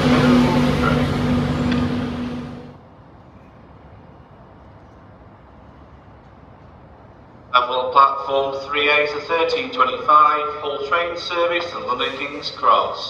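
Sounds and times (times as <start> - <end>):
electric train running past: 0.0 - 13.0
low station background: 0.0 - 13.0.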